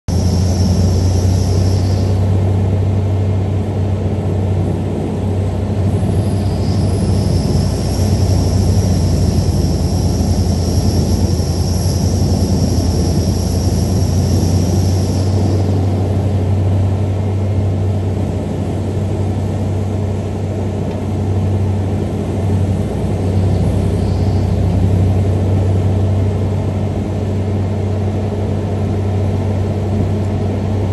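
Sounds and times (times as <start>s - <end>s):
faint high whine: 0.1s - 4.0s, 4.6s - 28.3s
wood chipper engine drone: 0.1s - 30.9s.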